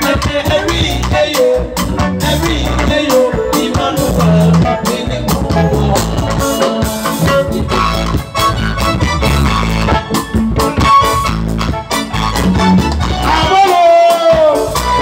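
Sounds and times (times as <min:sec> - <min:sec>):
drum kit beat: 0:00.0 - 0:15.0
live band music through speakers: 0:00.0 - 0:15.0.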